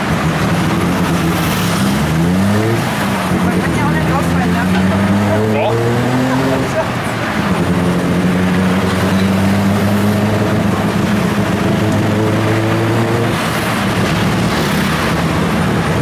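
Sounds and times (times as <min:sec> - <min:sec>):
road noise: 0:00.0 - 0:16.0
tuk-tuk engine running: 0:00.0 - 0:16.0.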